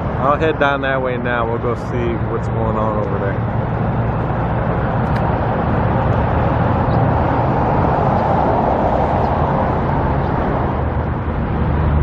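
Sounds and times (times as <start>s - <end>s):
steady outdoor rumble and hiss: 0.0s - 12.0s.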